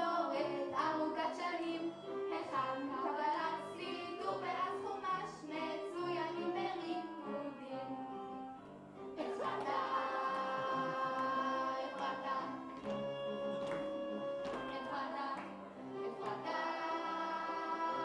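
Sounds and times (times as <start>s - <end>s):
musical accompaniment: 0.0s - 18.0s.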